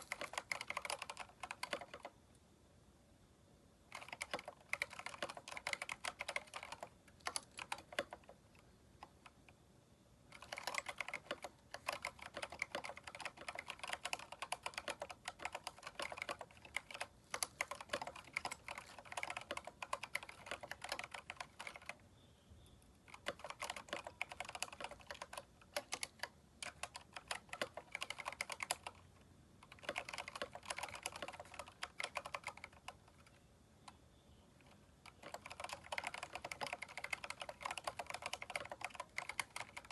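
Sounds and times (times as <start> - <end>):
mechanical keyboard typing: 0.0 - 2.2, 3.9 - 9.6, 10.3 - 22.0, 23.0 - 34.0, 34.6 - 39.9.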